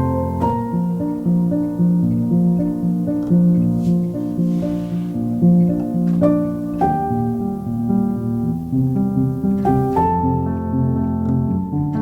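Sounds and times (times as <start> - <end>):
soft harp and piano melody: 0.0 - 12.0.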